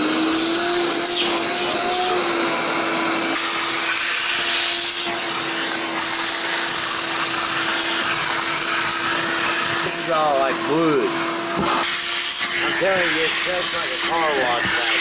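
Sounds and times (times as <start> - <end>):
shop vacuum running: 0.0 - 15.0.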